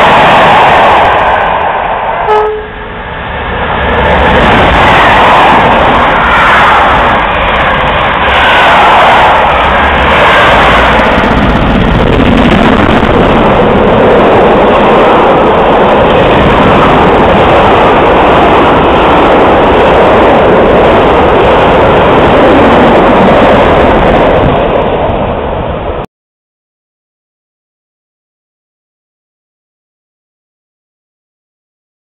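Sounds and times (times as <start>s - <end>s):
train passing at speed: 0.0s - 26.1s.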